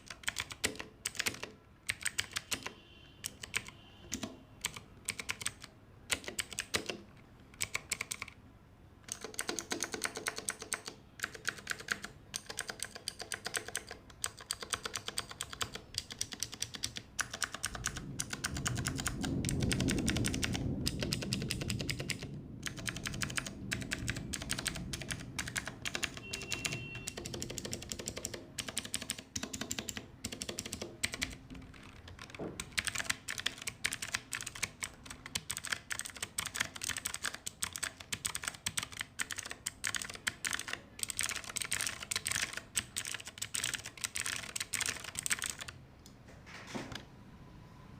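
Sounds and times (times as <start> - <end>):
mechanical keyboard key clicks: 0.0 - 8.4, 9.1 - 45.7.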